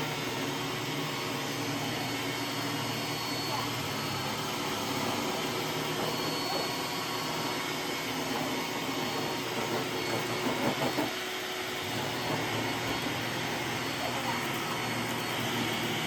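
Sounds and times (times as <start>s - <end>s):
robot vacuum running: 0.0s - 16.0s.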